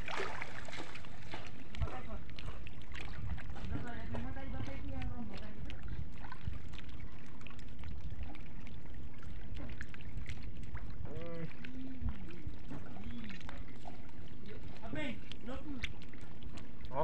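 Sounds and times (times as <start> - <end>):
seawater sloshing and splashing: 0.0 - 17.0.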